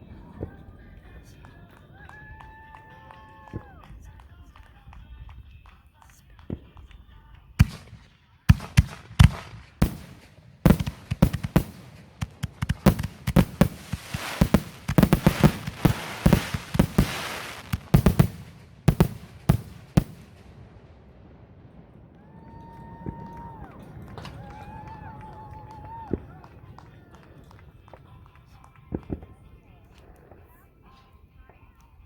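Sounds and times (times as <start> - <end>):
fireworks bangs and crackling: 0.0 - 31.8.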